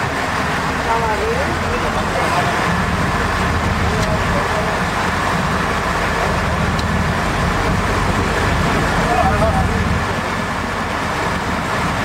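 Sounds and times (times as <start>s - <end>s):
boat engine running: 0.0s - 12.0s
rush of wind and water: 0.0s - 12.0s.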